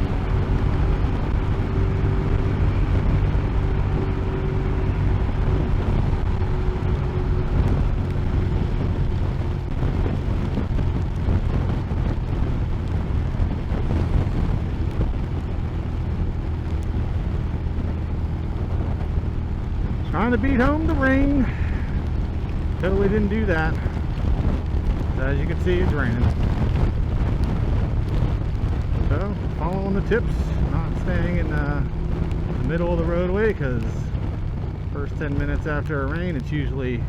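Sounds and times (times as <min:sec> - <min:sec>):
constant rushing noise: 0:00.0 - 0:37.0
motorcycle engine hum: 0:00.0 - 0:37.0.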